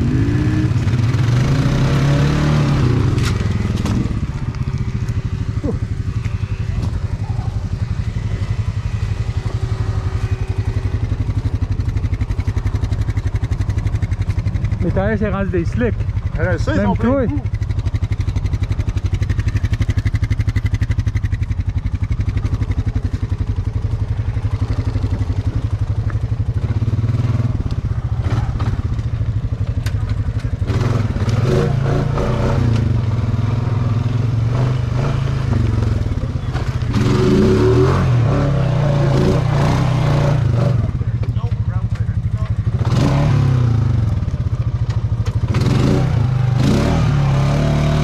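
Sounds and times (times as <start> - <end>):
atv engine revving: 0.0 - 48.0.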